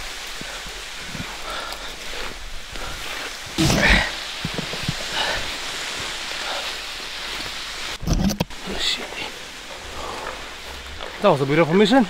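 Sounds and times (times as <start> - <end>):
branches rustling against jacket: 0.0 - 12.0.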